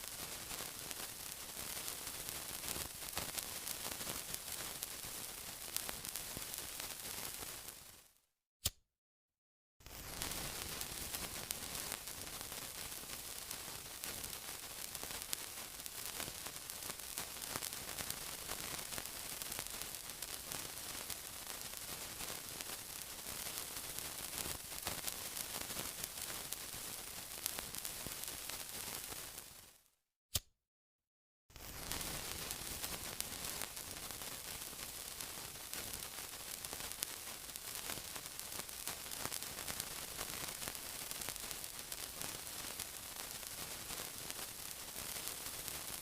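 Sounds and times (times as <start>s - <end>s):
sizzling hiss with crackles: 0.0s - 8.2s, 9.8s - 29.9s, 31.5s - 46.0s.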